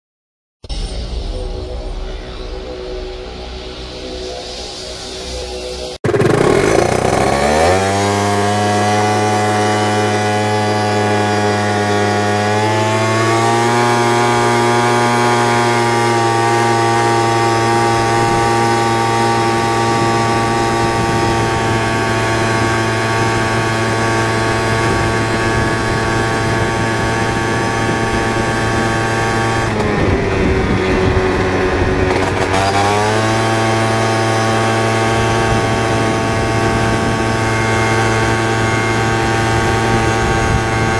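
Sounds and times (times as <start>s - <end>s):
scooter engine pulling away: 6.0s - 40.9s.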